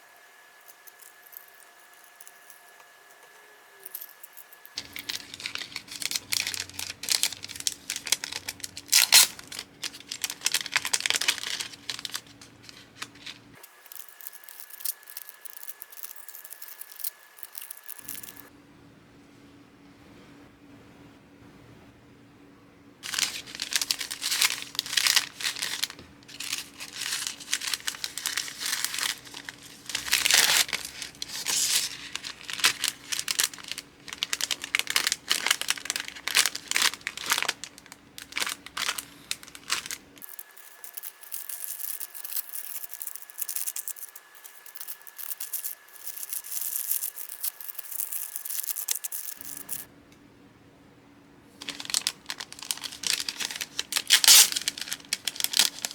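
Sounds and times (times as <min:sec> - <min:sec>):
plastic packaging crinkling: 0:03.8 - 0:18.5, 0:23.0 - 0:49.9, 0:51.6 - 0:55.9
plastic tearing: 0:03.9 - 0:18.5, 0:23.0 - 0:49.9, 0:51.6 - 0:55.9.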